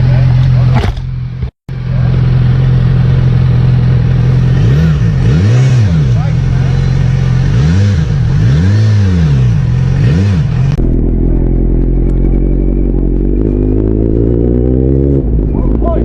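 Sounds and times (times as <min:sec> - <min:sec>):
engine running steadily: 0:00.0 - 0:16.0
motorcycle engine revving: 0:00.0 - 0:16.0.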